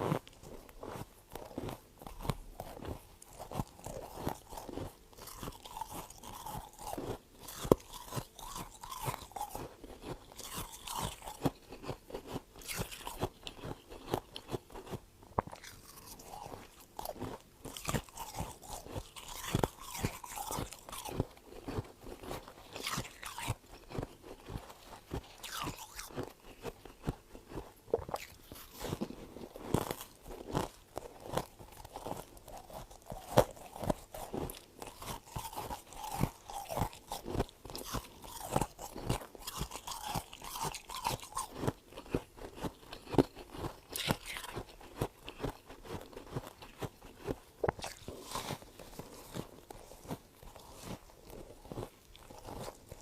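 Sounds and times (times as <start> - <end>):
frost being chewed: 0.0 - 53.0.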